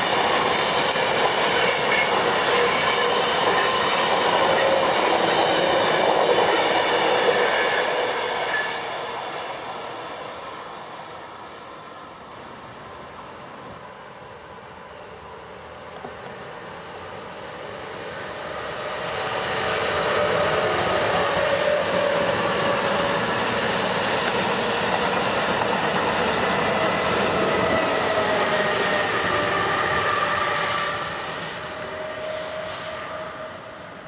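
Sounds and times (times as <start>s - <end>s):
faint train whine: 0.0s - 34.0s
high-speed train passing: 0.0s - 34.0s.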